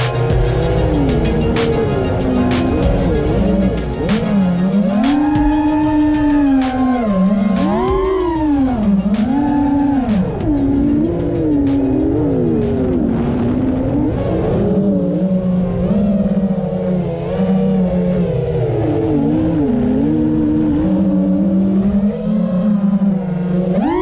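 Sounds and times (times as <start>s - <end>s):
steady low hum: 0.0s - 23.7s
motor revving: 0.0s - 24.0s.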